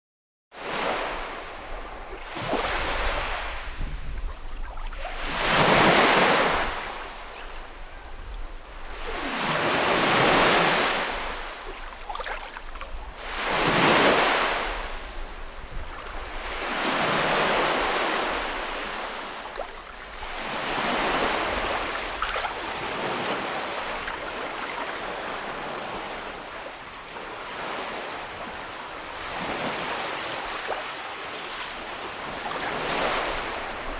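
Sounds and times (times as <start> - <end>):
small waves breaking on beach: 0.6 - 33.9.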